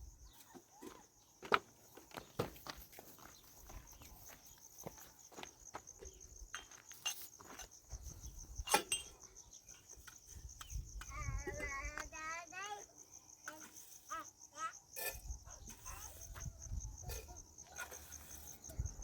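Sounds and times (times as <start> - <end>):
cricket chirring: 0.0 - 19.0.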